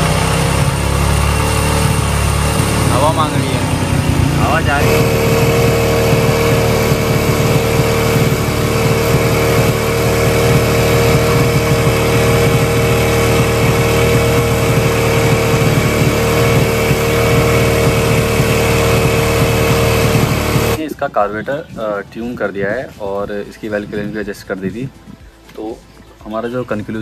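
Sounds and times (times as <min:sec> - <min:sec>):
motorcycle engine idling: 0:00.0 - 0:25.4.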